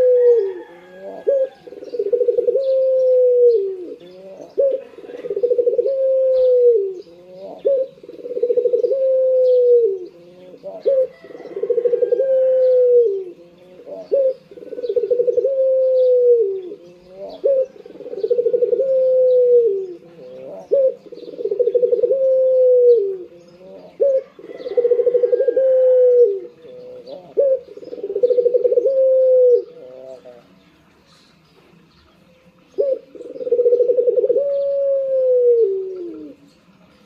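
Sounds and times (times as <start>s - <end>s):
dove cooing: 0.0s - 30.5s, 32.7s - 36.5s.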